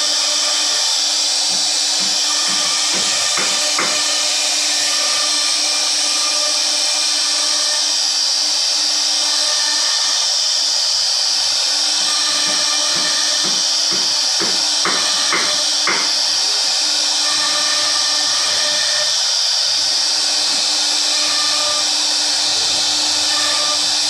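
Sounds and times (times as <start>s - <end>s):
bit milling wood: 0.0s - 24.0s
router spindle whining: 0.0s - 24.0s.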